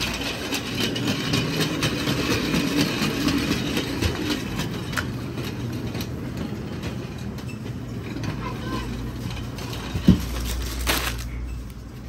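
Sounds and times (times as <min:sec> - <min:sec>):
wire trolley rattling on tiles: 0:00.0 - 0:12.0.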